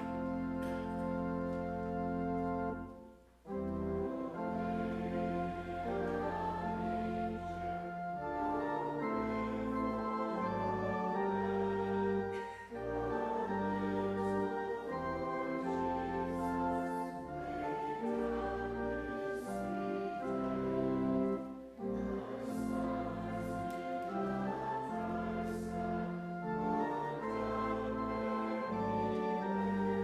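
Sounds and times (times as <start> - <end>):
church organ: 0.0 - 30.0
congregation singing a hymn: 0.0 - 30.0.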